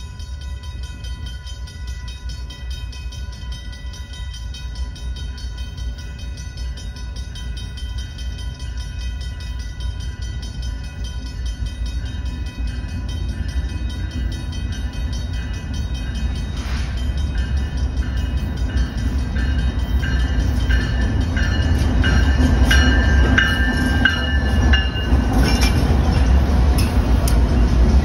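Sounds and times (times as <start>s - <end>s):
bell ringing: 0.0s - 28.0s
diesel locomotive engine rumble: 0.0s - 28.0s.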